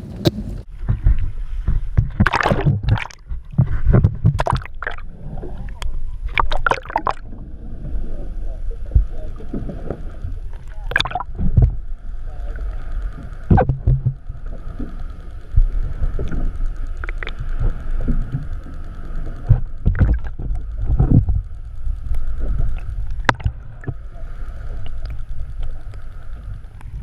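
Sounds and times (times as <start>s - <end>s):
constant higher hum: 0.0s - 27.0s
rumble of engine and water: 0.0s - 27.0s.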